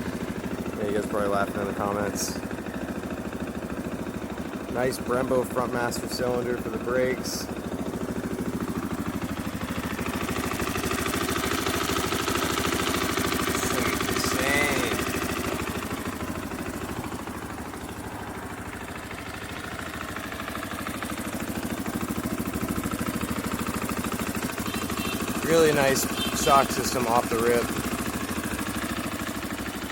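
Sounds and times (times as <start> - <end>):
single-cylinder engine idling: 0.0 - 29.9.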